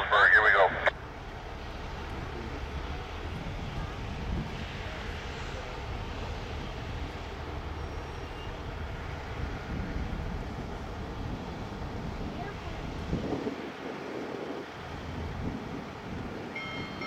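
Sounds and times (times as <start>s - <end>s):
locomotive low rumble: 0.0s - 17.0s.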